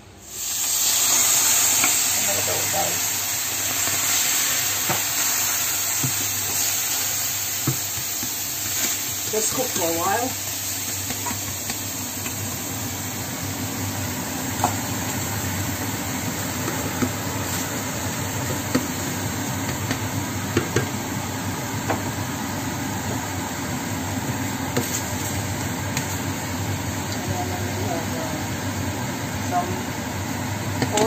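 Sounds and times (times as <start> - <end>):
tomatoes sizzling in frying pan: 0.2 - 31.0.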